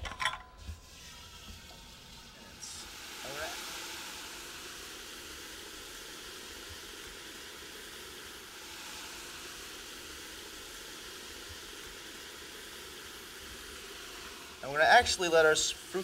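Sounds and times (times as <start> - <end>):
liquid nitrogen hissing: 0.0 - 16.0.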